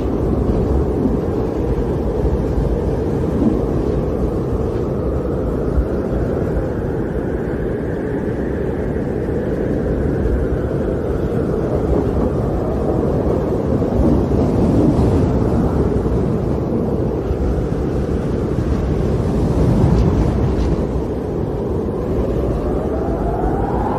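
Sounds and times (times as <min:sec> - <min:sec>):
strong snowstorm wind: 0:00.0 - 0:23.9.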